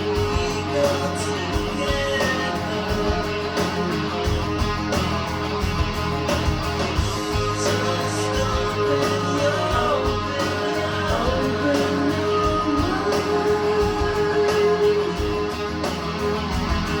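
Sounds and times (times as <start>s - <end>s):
guitar music with singing: 0.0s - 17.0s.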